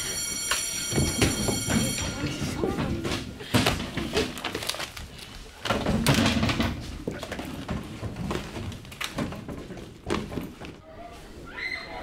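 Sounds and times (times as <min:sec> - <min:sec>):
knocks and thuds of bags and chairs: 0:00.2 - 0:10.8
rustling papers: 0:00.9 - 0:10.8.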